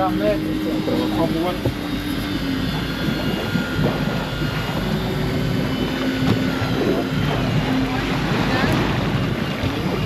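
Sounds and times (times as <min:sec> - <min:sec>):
boat motor drone: 0:00.0 - 0:10.0.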